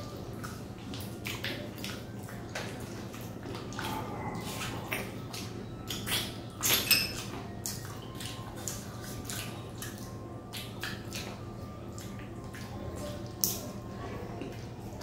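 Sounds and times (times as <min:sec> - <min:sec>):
people chewing and lip-smacking: 0:00.0 - 0:15.0.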